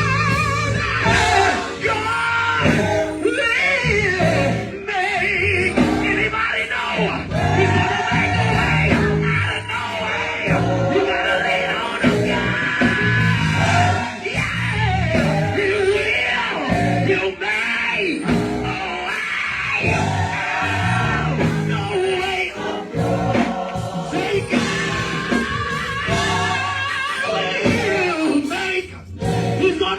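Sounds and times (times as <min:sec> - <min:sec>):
band playing: 0:00.0 - 0:29.9
gospel choir singing: 0:00.0 - 0:29.9
lead singer: 0:00.0 - 0:29.9.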